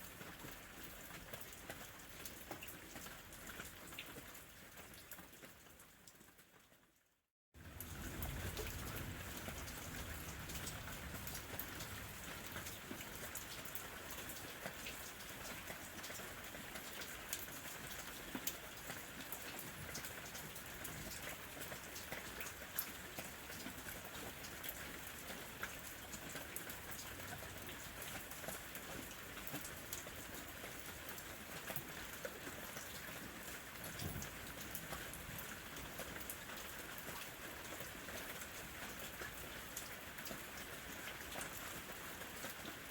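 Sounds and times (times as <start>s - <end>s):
gentle rain falling: 0.0s - 42.9s.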